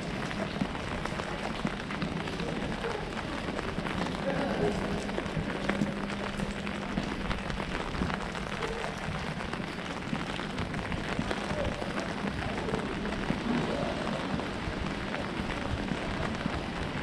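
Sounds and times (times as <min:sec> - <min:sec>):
rain pattering on umbrella: 0:00.0 - 0:17.0.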